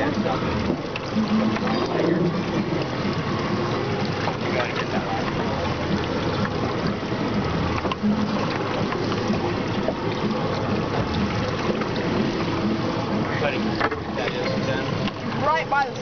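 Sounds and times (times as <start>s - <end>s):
water splashing around boat: 0.0s - 16.0s.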